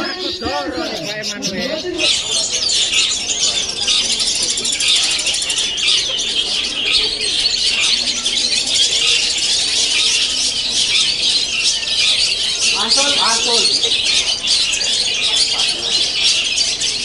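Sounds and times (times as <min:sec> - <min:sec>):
chorus of birds singing: 0:00.0 - 0:17.0.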